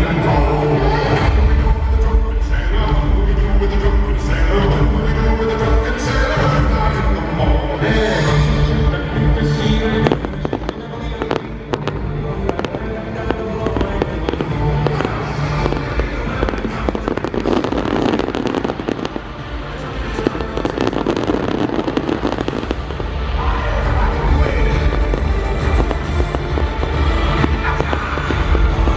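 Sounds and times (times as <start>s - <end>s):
fireworks bangs and crackles: 0.0s - 28.9s
loud show music: 0.0s - 28.9s.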